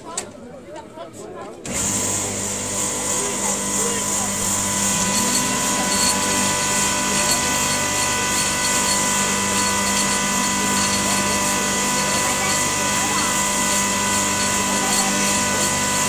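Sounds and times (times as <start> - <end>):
mechanical hum with whine: 1.7 - 16.0.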